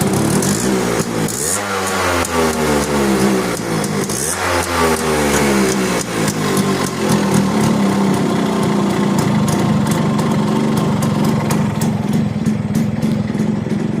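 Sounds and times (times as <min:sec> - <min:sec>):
two-stroke engine idling: 0:00.0 - 0:14.0.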